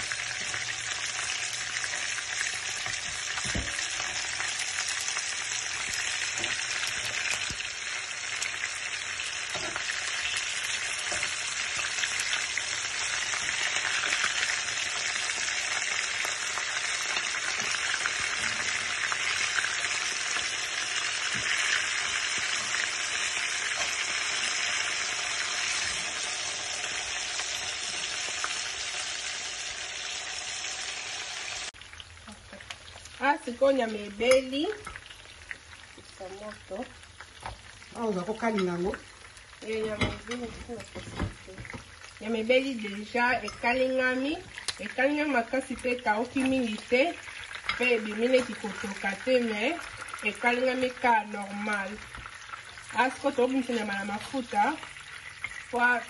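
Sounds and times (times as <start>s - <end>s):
meat sizzling in frying pan: 0.0s - 56.0s.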